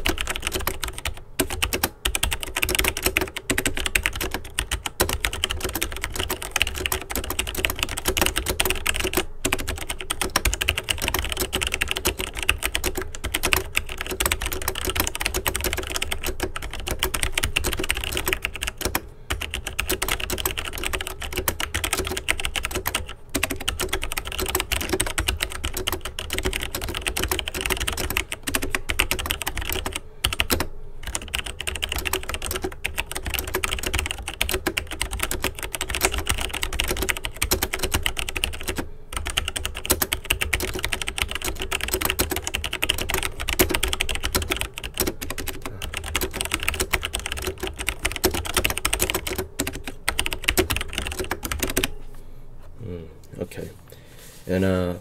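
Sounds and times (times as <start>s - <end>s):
fast typing on mechanical keyboard: 0.0s - 52.0s.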